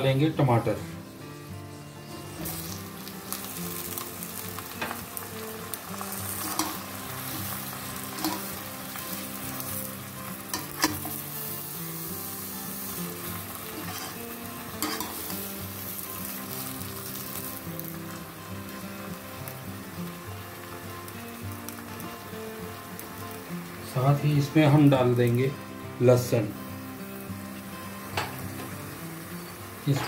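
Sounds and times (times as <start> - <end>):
tomatoes sizzling in oil: 0.0 - 30.0.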